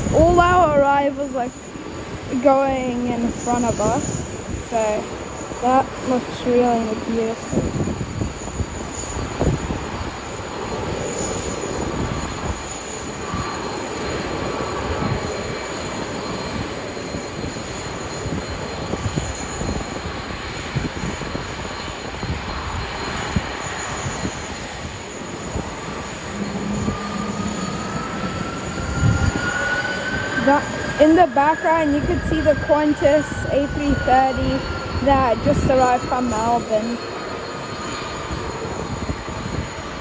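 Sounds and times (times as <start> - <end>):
jet engines running: 0.0 - 40.0
rising engine whine: 0.0 - 40.0
wind buffeting microphone: 0.0 - 40.0.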